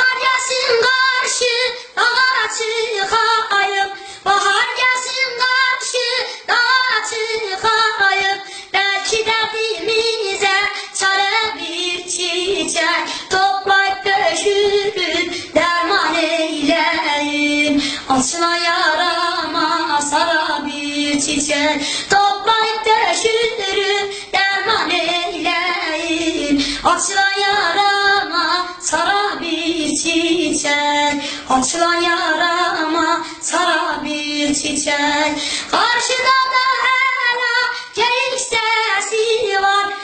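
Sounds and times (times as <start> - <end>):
boy singing folk song: 0.0 - 40.0.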